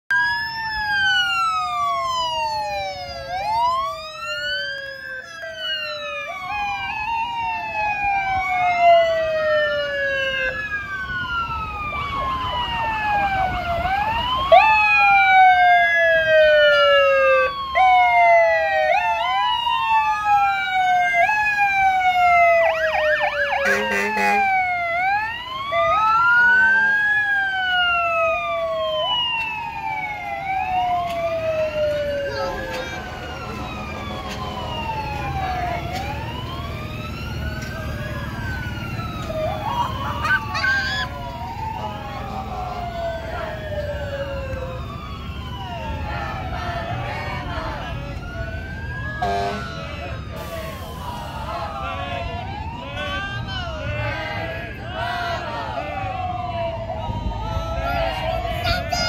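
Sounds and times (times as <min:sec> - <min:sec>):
emergency sirens wailing: 0:00.1 - 0:59.0
siren yelp: 0:00.1 - 0:59.0.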